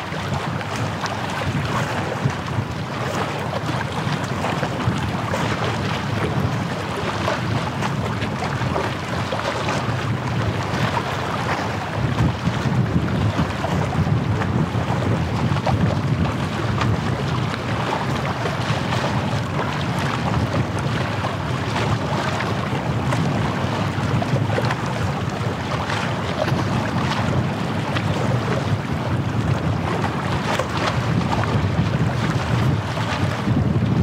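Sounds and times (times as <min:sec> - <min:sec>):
small waves washing: 0:00.0 - 0:34.0
wind rumbling on microphone: 0:00.0 - 0:34.0.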